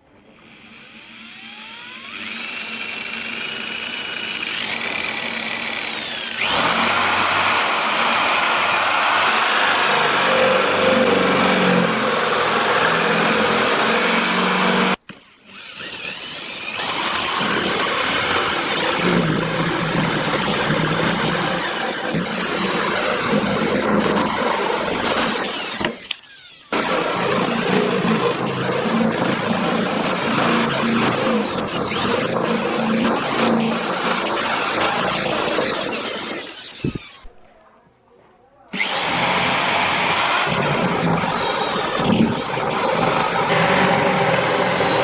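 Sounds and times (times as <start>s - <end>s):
power tool whining: 0.2s - 37.5s, 38.7s - 45.0s.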